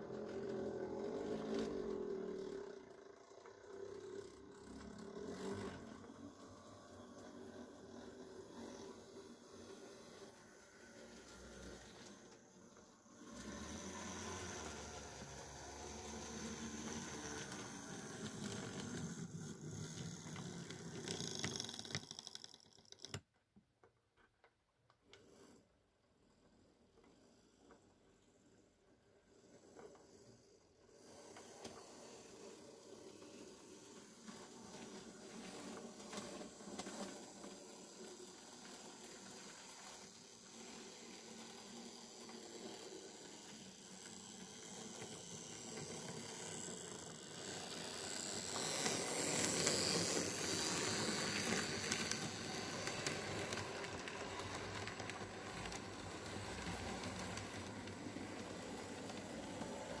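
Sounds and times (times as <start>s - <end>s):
model train whirring hiss: 0.0s - 22.3s, 28.3s - 60.0s.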